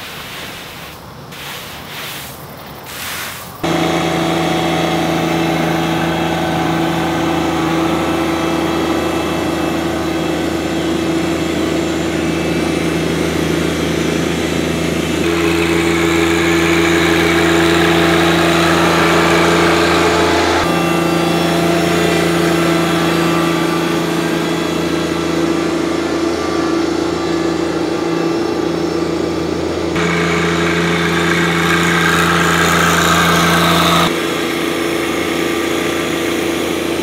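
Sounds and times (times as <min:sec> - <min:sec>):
tractor diesel engine running: 0:03.6 - 0:37.0.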